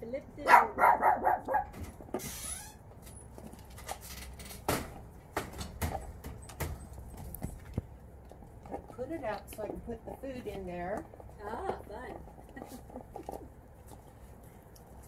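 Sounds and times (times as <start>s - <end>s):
puppy paws clicking and scuffing: 1.5s - 15.0s.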